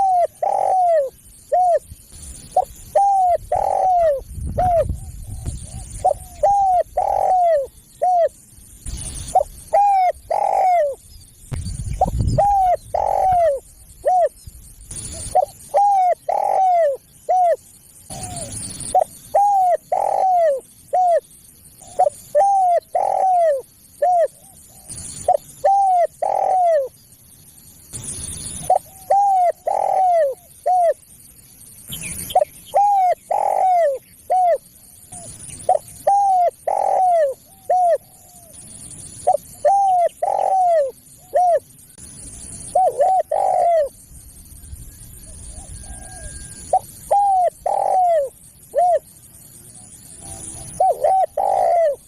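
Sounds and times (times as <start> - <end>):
dove cooing: 0.0 - 11.0, 12.0 - 27.0, 28.4 - 31.0, 32.2 - 41.7, 42.6 - 44.0, 45.1 - 49.1, 49.8 - 52.0.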